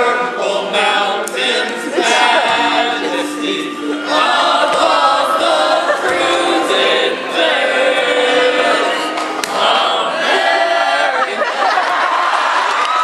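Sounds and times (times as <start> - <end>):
choir singing music: 0.0 - 12.6.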